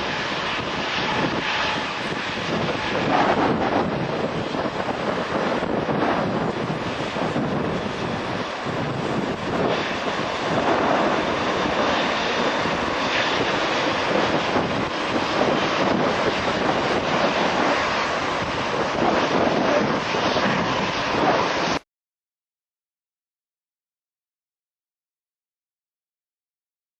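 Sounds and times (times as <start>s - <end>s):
loud jet engine noise: 0.0s - 21.8s.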